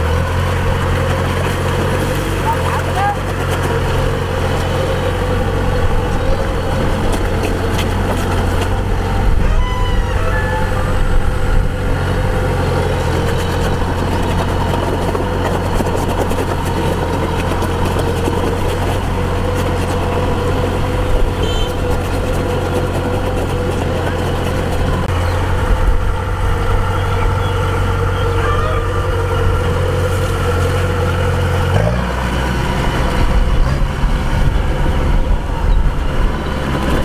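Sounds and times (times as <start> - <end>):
diesel engine drone: 0.0 - 37.0.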